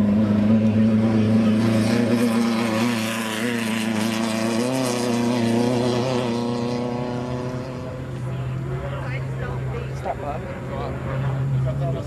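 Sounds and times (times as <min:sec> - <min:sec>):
race car engine running: 0:00.0 - 0:12.0.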